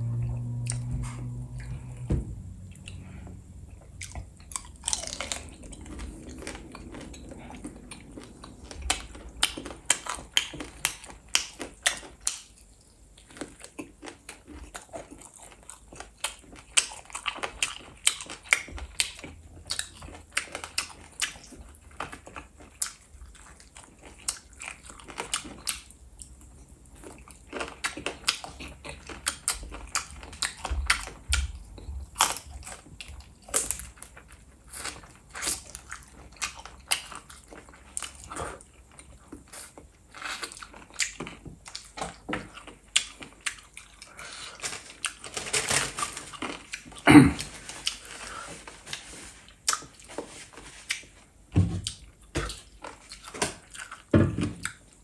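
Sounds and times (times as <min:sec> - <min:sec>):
person chewing and sucking: 0:00.0 - 0:45.2, 0:46.3 - 0:51.2.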